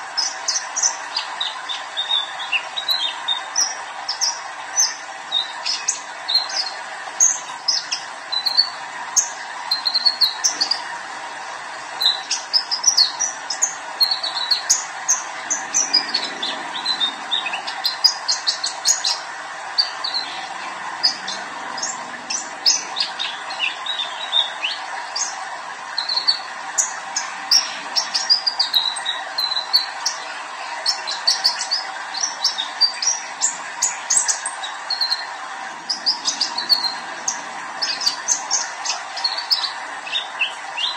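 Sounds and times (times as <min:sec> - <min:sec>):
bird chirping and trilling: 0:00.0 - 0:10.9, 0:11.9 - 0:25.4, 0:26.0 - 0:40.9.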